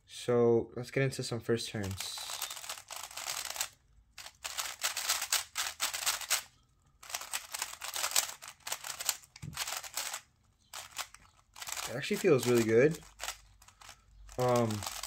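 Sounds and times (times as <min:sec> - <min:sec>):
plastic puzzle cube clacking: 0:01.8 - 0:15.0.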